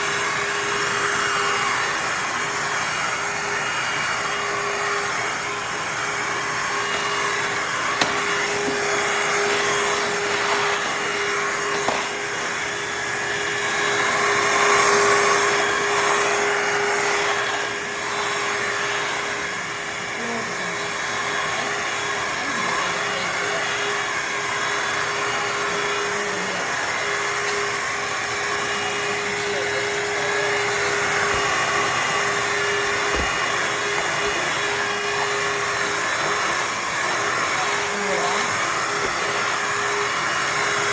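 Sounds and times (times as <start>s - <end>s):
rushing suction: 0.0s - 40.9s
vacuum mop motor whine: 0.0s - 40.9s.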